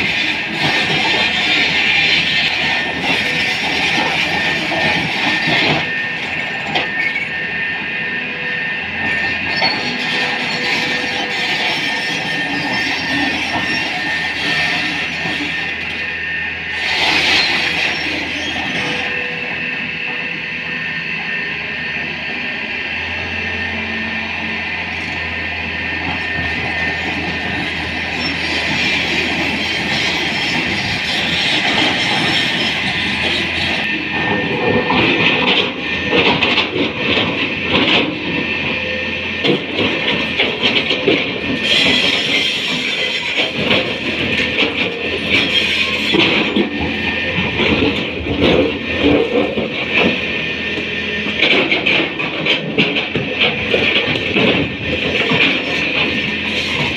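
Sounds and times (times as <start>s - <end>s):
metallic clanking and squealing: 0.0s - 7.7s, 8.5s - 21.2s, 23.4s - 56.9s
high-pitched whine: 0.0s - 51.9s
excavator diesel engine running: 0.0s - 56.9s.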